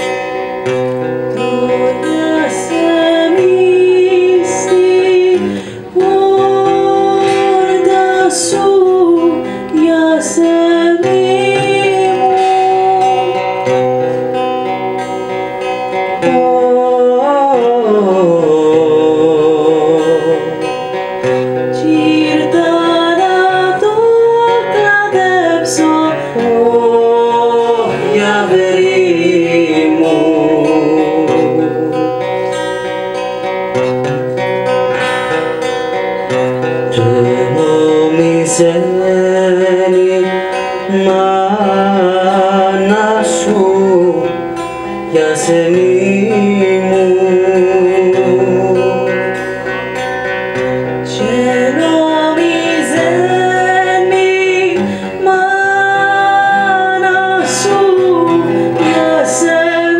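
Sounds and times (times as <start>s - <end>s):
woman singing: 0.0s - 32.6s, 34.9s - 49.4s, 50.5s - 59.9s
strummed acoustic guitar: 0.0s - 59.9s.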